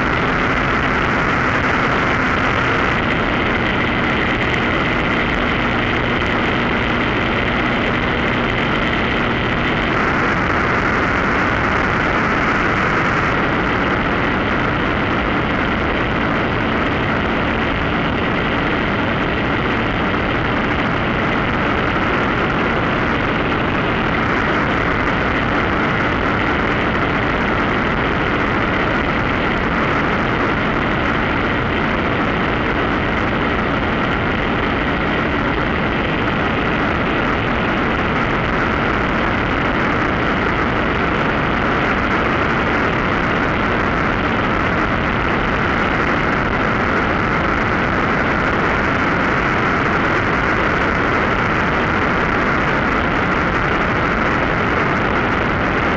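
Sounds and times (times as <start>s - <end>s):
propeller motor droning: 0.0s - 55.9s.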